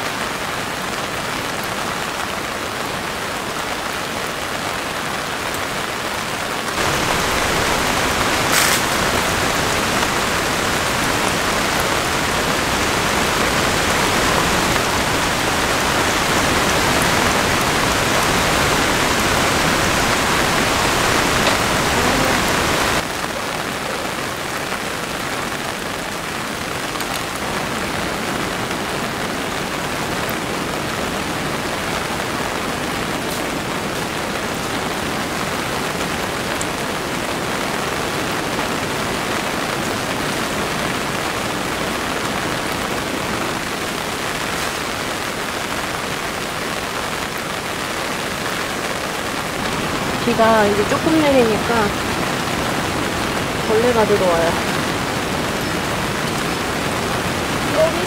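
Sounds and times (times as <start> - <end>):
rain on a tent: 0.0 - 58.0.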